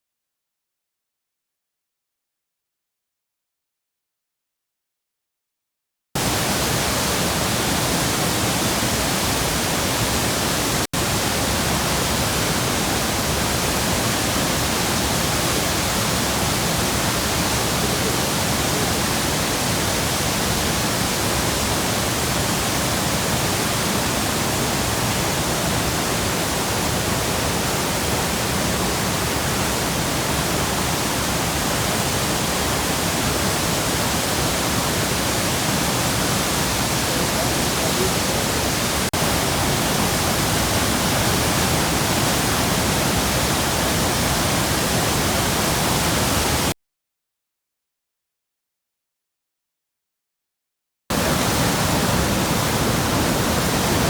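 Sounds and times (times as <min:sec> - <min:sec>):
waterfall rushing: 0:06.2 - 0:46.7, 0:51.1 - 0:54.0.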